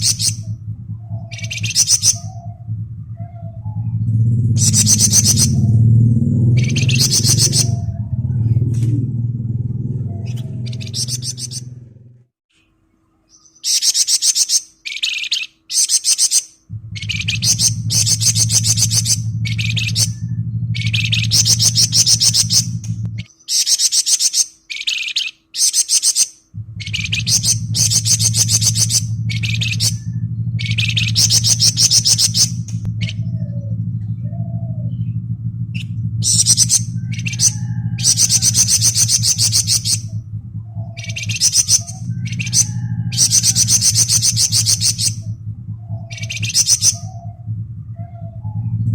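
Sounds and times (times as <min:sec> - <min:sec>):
songbird high-pitched trills: 0:00.0 - 0:08.4, 0:09.8 - 0:11.8, 0:12.7 - 0:35.2, 0:35.8 - 0:48.8
low steady hum: 0:00.0 - 0:15.8, 0:16.4 - 0:23.5, 0:26.3 - 0:48.9.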